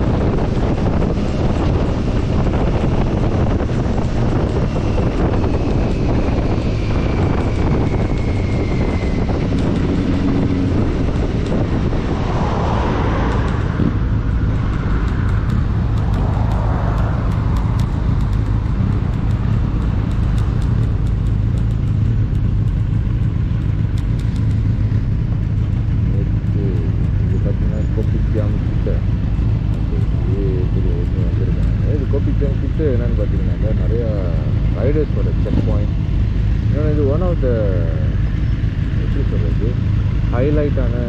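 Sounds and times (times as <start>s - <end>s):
motorcycle engine running: 0.0s - 41.0s
wind noise on microphone: 0.0s - 41.0s.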